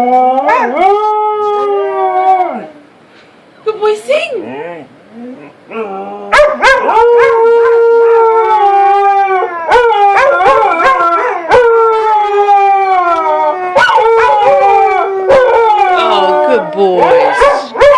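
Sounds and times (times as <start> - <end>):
dogs howling: 0.0 - 2.8, 4.4 - 17.9.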